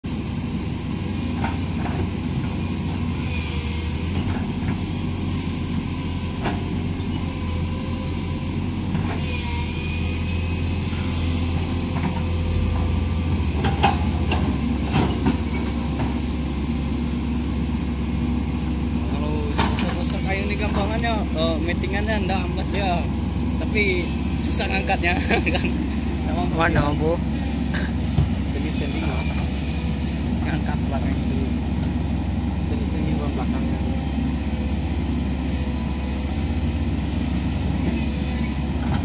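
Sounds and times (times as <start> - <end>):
excavator diesel engine rumble: 0.1 - 39.0.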